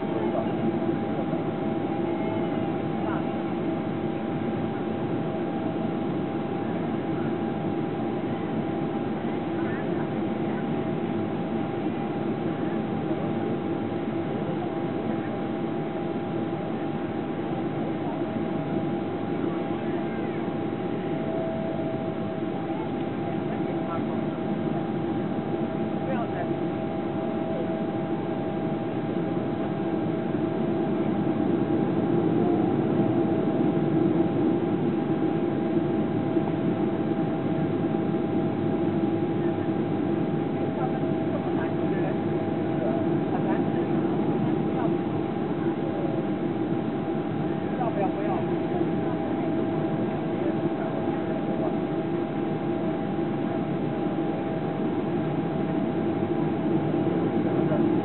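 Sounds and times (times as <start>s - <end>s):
airplane cabin engine roar: 0.0s - 58.0s
faint steady hums: 0.0s - 58.0s.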